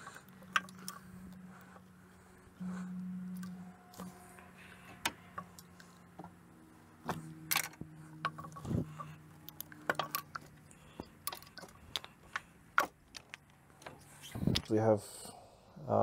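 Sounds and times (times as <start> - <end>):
small parts clicking and rattling: 0.0 - 2.6, 3.3 - 14.8
faint low hum: 0.0 - 16.0.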